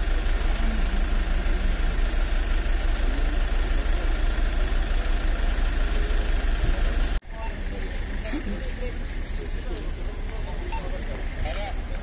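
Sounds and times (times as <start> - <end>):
ambulance engine idling: 0.0 - 12.0.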